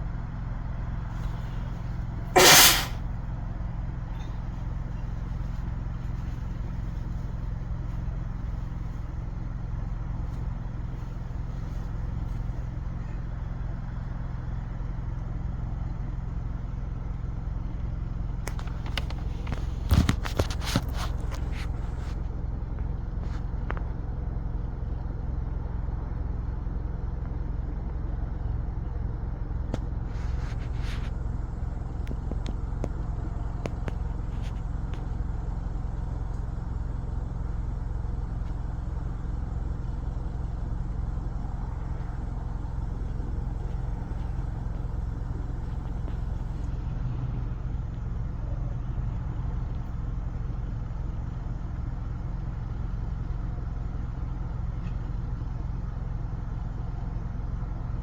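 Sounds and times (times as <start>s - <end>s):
vehicle running rumble: 0.0s - 58.0s.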